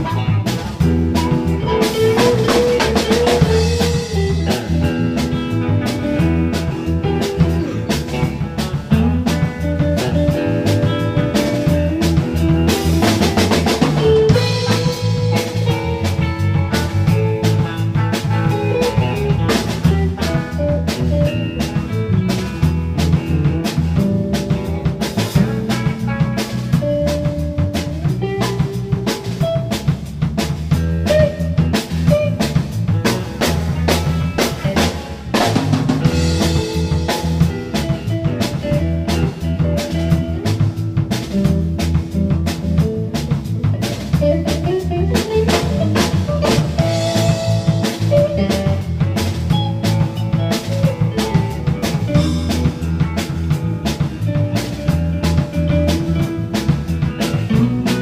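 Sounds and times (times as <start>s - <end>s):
blues band music: 0.0s - 58.0s.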